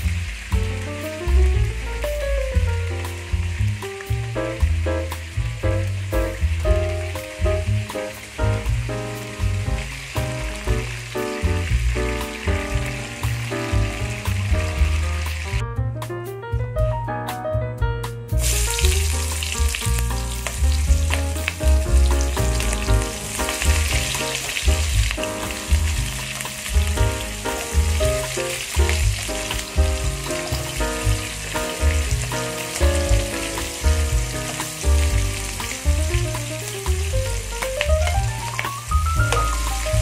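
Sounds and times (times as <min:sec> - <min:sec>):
onion sizzling in hot oil: 0:00.0 - 0:15.6, 0:18.4 - 0:40.0
background music with bass line: 0:00.0 - 0:40.0.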